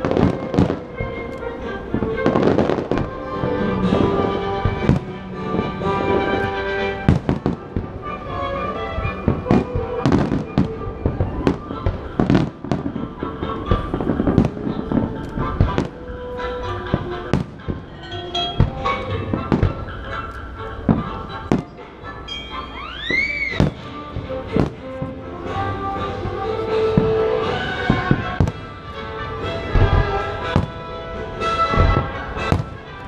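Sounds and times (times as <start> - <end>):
firework whistle: 0.0 - 33.0
fireworks bursting: 0.0 - 33.0
orchestral music: 0.0 - 33.0.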